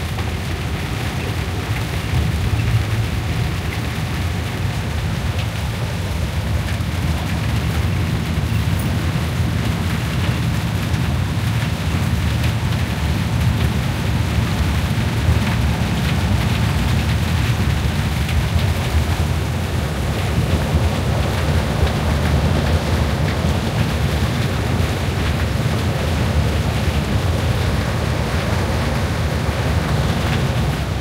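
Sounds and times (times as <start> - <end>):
bus rumble from inside: 0.0 - 31.0
rain ticking on window: 0.0 - 31.0.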